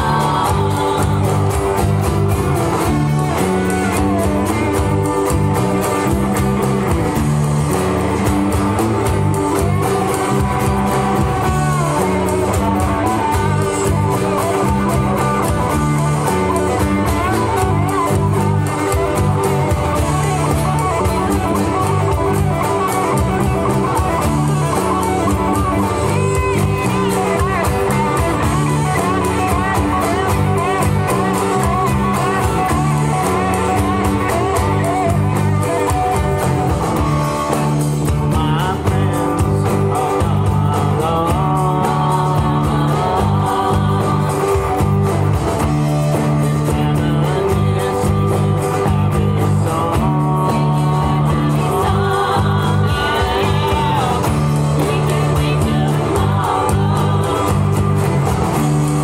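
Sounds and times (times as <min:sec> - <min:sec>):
electric guitar: 0:00.0 - 0:59.0
rock band playing: 0:00.0 - 0:59.0.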